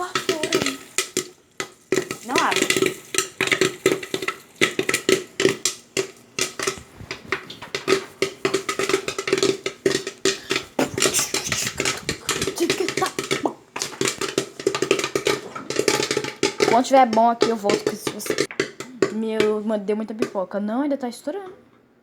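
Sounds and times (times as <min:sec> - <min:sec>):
pot lid rattling: 0:00.0 - 0:19.6
popcorn popping: 0:00.0 - 0:21.8.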